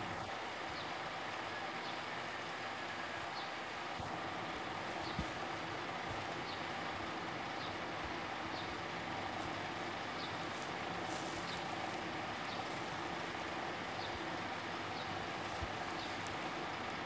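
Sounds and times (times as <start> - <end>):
faint hum: 0.0 - 17.0
low background hiss: 0.0 - 17.0.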